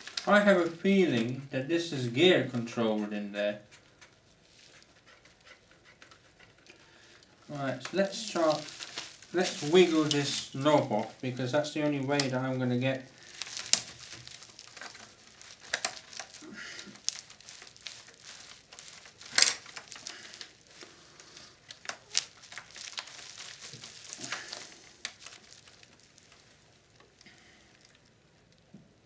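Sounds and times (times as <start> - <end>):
plastic parts clicking and rattling: 0.0 - 28.7.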